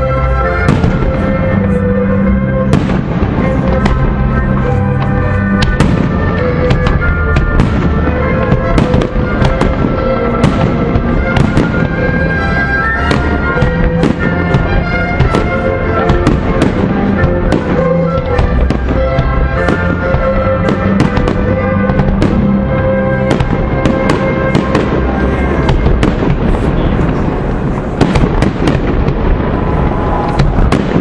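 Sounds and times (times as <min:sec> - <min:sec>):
music: 0:00.0 - 0:31.0.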